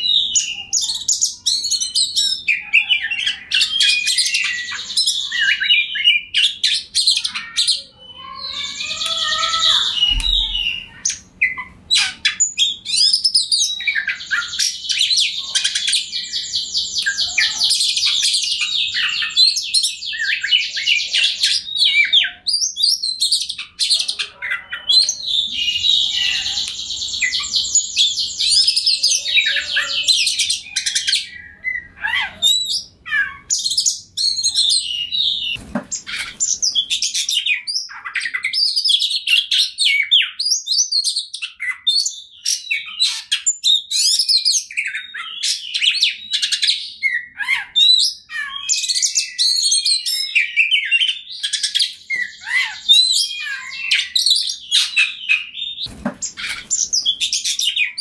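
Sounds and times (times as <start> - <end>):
magpie-robin singing: 0.0 - 58.0.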